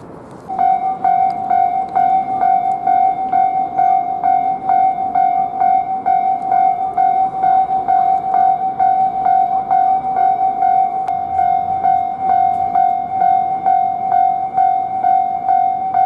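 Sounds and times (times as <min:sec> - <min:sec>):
level crossing warning bell: 0:00.5 - 0:16.0.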